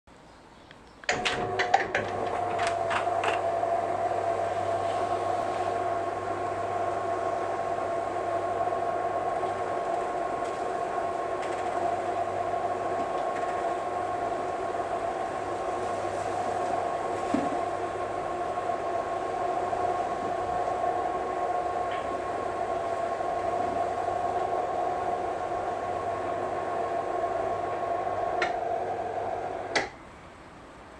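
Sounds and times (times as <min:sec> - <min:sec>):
electric roller screen motor humming: 0:01.1 - 0:29.9.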